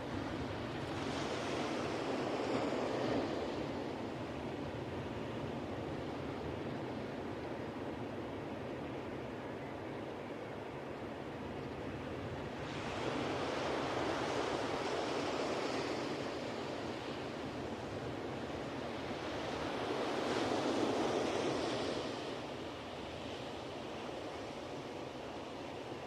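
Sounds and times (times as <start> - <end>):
ocean surf on beach: 0.0 - 26.0.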